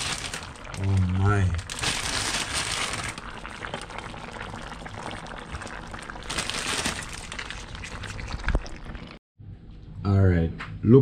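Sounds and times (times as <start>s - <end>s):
pot bubbling and sizzling: 0.0s - 9.2s.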